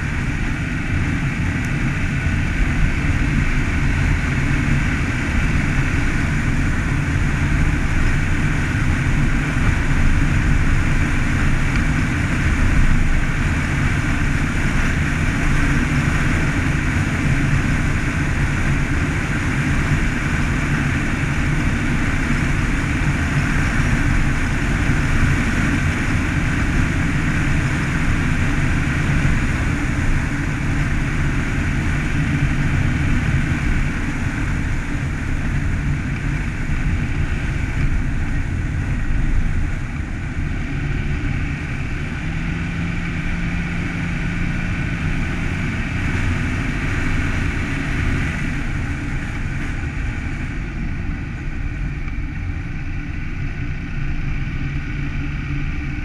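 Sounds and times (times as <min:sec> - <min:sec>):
car engine hum: 0:00.0 - 0:56.0
tyre and road noise: 0:00.0 - 0:56.0.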